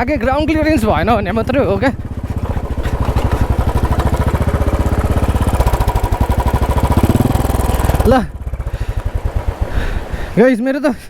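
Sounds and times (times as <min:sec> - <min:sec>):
motorcycle engine thumping: 0:00.0 - 0:10.4.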